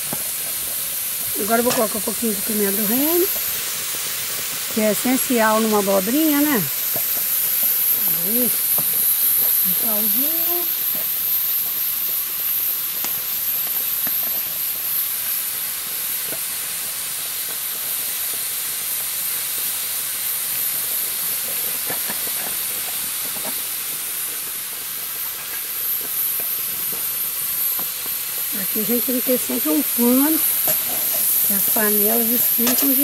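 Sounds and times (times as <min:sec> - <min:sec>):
steam hissing from valve: 0:00.0 - 0:33.0.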